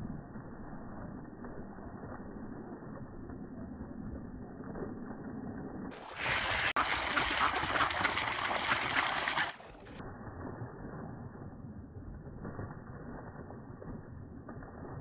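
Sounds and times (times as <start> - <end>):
water splashing into pond: 0.9 - 15.0.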